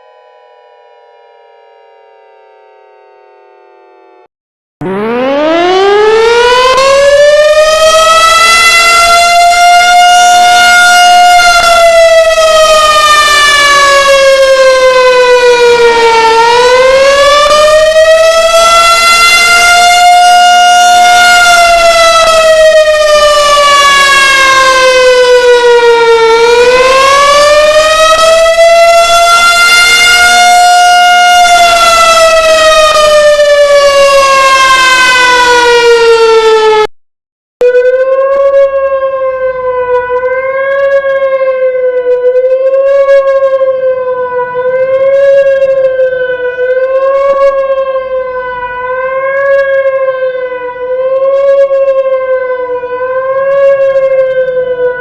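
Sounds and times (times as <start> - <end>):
siren slow wail: 0.0 - 36.9, 37.6 - 55.0
siren wavering steady tone: 0.0 - 36.9, 37.6 - 55.0.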